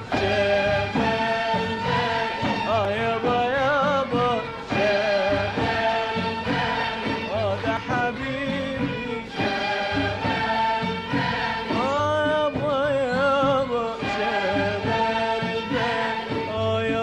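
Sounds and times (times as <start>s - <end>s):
song with ornamented melody: 0.0s - 17.0s.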